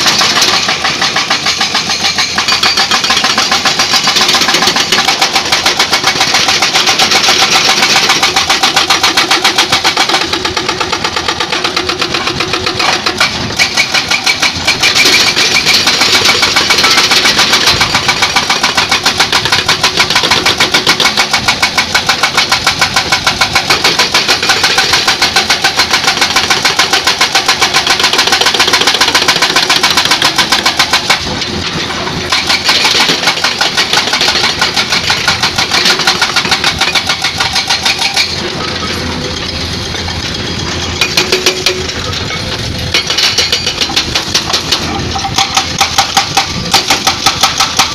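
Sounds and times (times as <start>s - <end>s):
excavator engine: 0.0s - 47.9s
hydraulic breaker hammering rock: 0.0s - 47.9s.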